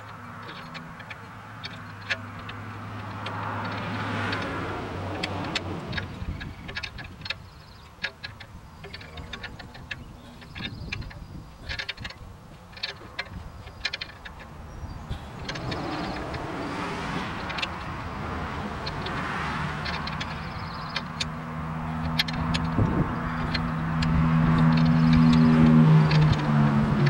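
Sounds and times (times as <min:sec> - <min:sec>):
metallic tool clicks: 0:00.0 - 0:27.0.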